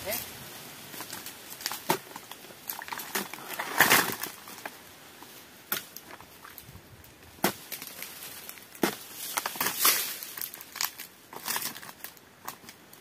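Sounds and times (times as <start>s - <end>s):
rustling swish of fronds: 0.0s - 12.2s
sickle clicks and knocks: 0.9s - 6.7s, 7.4s - 13.0s.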